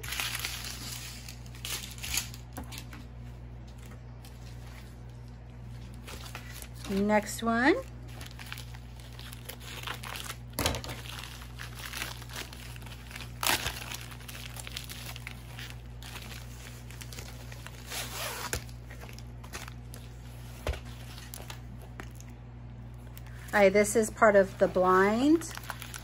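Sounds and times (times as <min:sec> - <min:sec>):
plastic packaging crinkling: 0:00.0 - 0:03.0, 0:03.7 - 0:22.3, 0:22.9 - 0:26.0.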